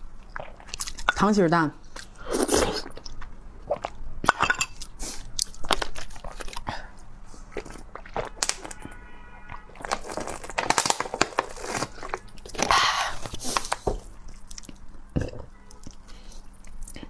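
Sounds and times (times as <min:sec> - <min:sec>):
wet chewing and mouth clicks: 0:00.1 - 0:01.2, 0:01.9 - 0:10.7, 0:11.6 - 0:17.0.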